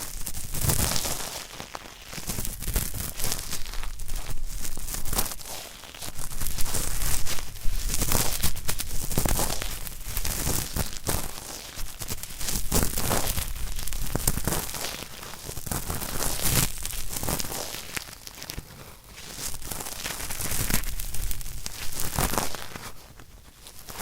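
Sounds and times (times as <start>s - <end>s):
cotton swab scratching in ear: 0.0s - 24.0s.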